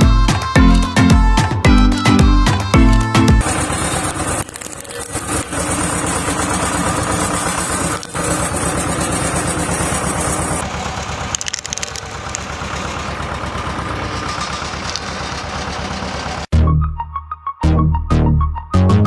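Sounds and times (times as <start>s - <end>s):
road roller diesel engine: 0.0s - 16.5s.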